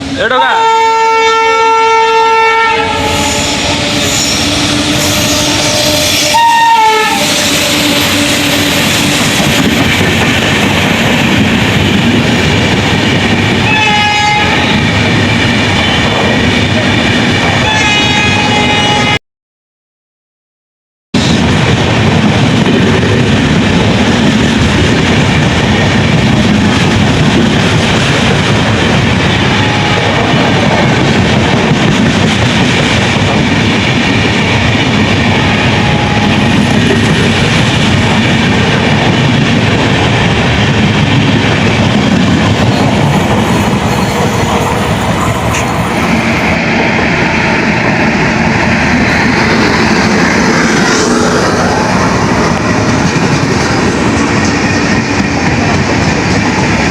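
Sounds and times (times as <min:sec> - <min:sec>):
train wheel and rail noise: 0:00.0 - 0:19.2, 0:21.2 - 0:56.9.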